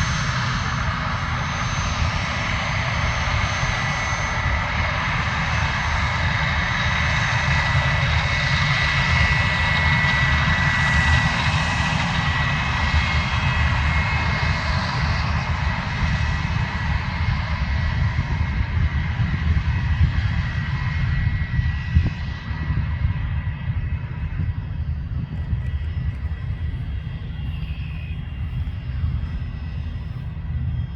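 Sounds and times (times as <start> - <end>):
jet turbofans running: 0.0 - 30.9.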